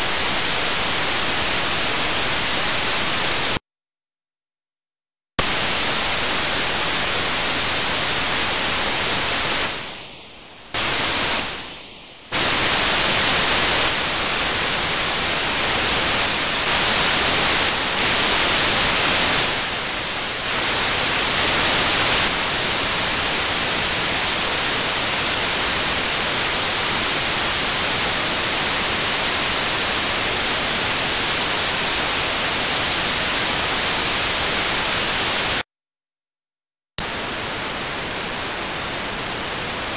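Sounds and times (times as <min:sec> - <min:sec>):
white noise hiss: 0:00.0 - 0:03.6, 0:05.4 - 0:35.6, 0:37.0 - 0:39.9.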